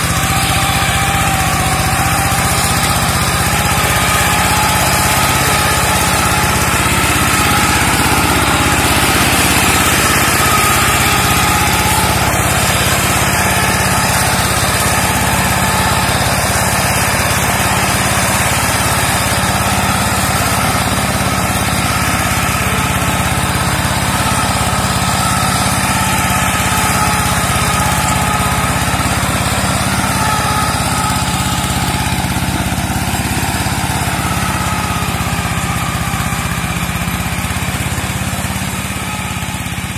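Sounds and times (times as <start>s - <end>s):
brush mower engine running: 0.0s - 39.9s.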